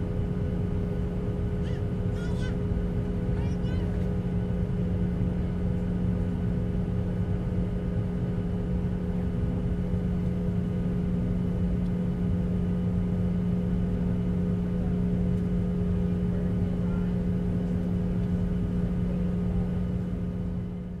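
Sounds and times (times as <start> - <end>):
constant low hum: 0.0 - 21.0
jet engine drone: 0.0 - 21.0.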